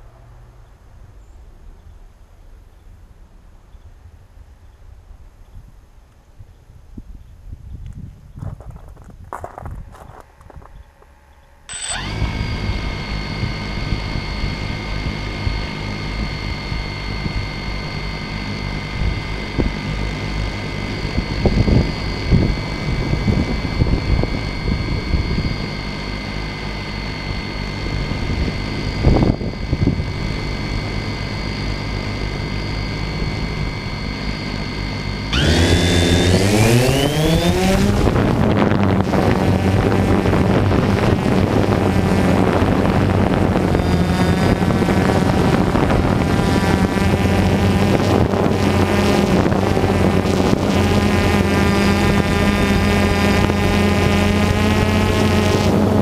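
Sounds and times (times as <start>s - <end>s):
drone motors whining: 9.4s - 56.0s.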